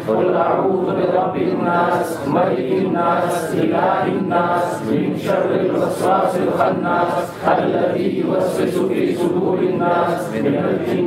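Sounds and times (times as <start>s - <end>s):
voices chanting together: 0.0s - 11.0s.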